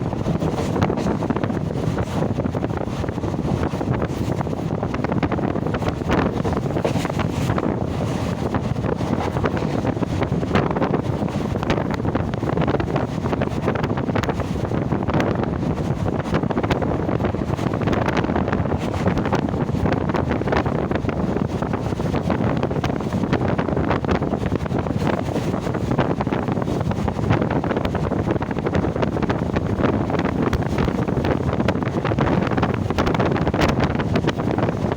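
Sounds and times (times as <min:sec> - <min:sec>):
train rumbling and rattling: 0:00.0 - 0:34.9
wind buffeting microphone: 0:00.0 - 0:34.9.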